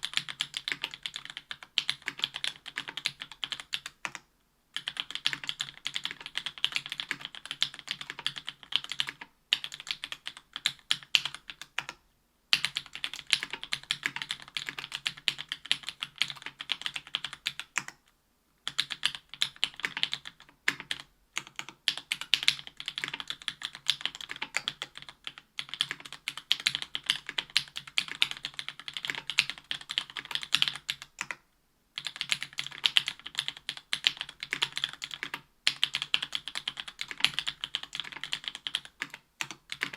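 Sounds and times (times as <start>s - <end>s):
mechanical keyboard typing: 0.0s - 4.2s, 4.8s - 18.0s, 18.6s - 31.4s, 32.0s - 39.9s.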